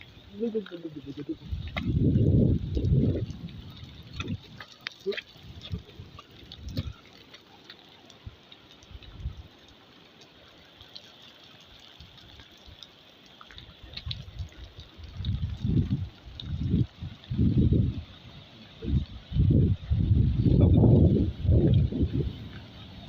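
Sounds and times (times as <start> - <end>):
rainwater dripping and trickling: 0.0 - 23.0.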